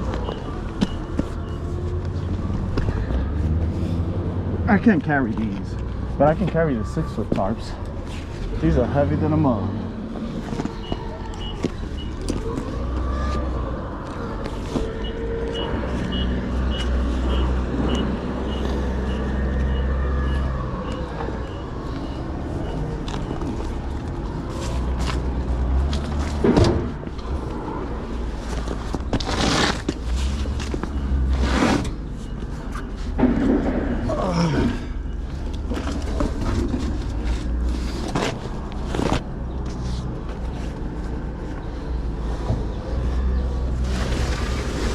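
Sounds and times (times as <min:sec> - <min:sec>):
heavy vehicle engine rumbling: 0:00.0 - 0:44.9.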